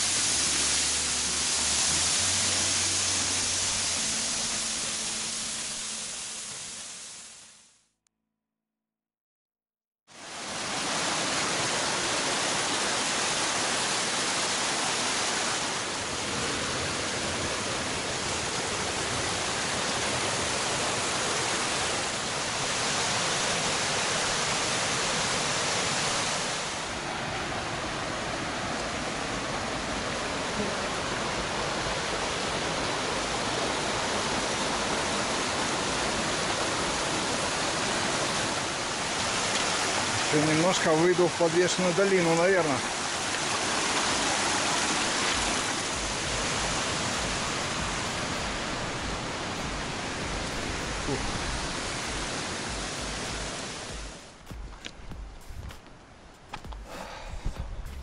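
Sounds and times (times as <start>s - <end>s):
waterfall rushing: 0.0s - 7.4s, 10.1s - 55.8s.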